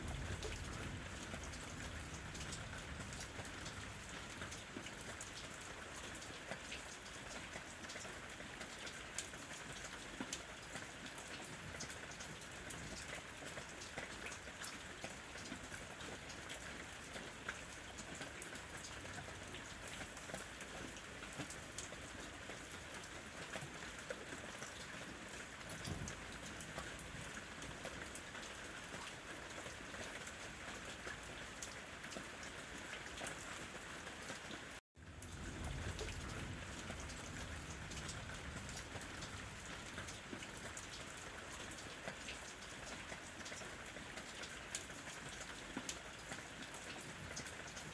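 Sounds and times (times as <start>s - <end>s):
rain on a roof: 0.0s - 47.9s.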